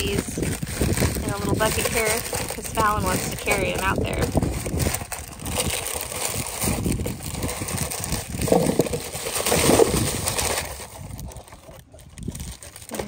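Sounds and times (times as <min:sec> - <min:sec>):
bag crinkling: 0:00.0 - 0:13.0
bulbs rattling into plastic pot: 0:00.0 - 0:13.0.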